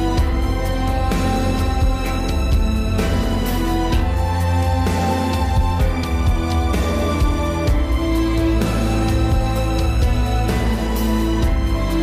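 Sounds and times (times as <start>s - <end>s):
music with steady beat and bass: 0.0s - 12.0s.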